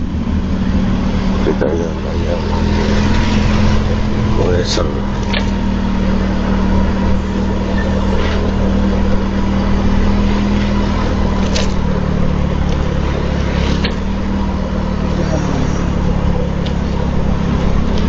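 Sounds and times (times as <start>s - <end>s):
motor scooter engine running: 0.0s - 18.0s
road and wind noise: 0.0s - 18.0s.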